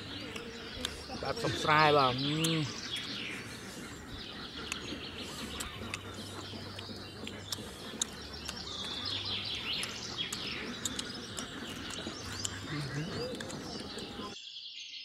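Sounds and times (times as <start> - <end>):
birds chirping and calling: 0.0 - 14.5.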